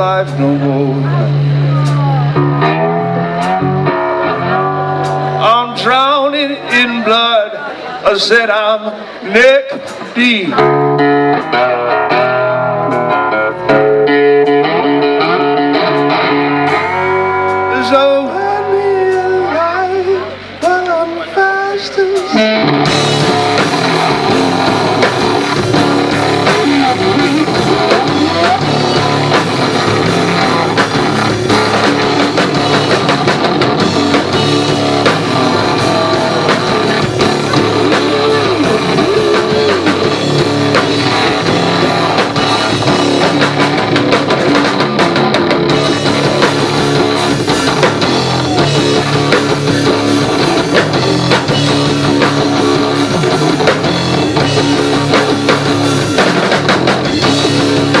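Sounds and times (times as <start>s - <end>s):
live rock band instrumental: 0.0s - 58.0s.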